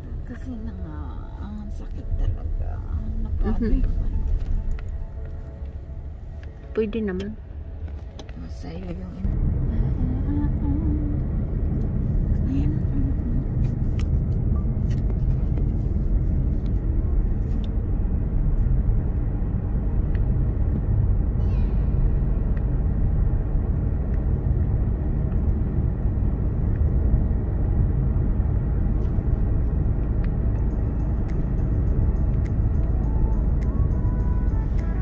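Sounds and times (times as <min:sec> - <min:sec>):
car interior road rumble: 0:00.0 - 0:35.0.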